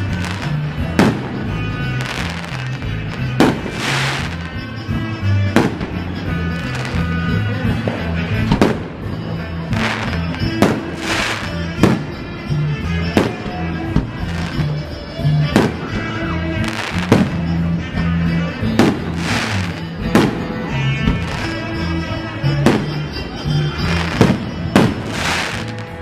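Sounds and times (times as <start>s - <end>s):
music with low bass line: 0.0s - 26.0s.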